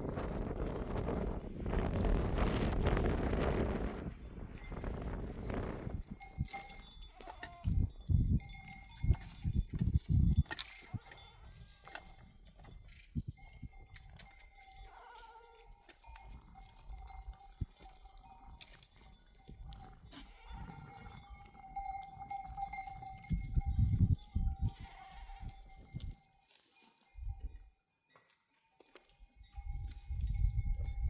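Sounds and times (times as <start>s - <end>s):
animal bells clinking: 4.5s - 31.0s.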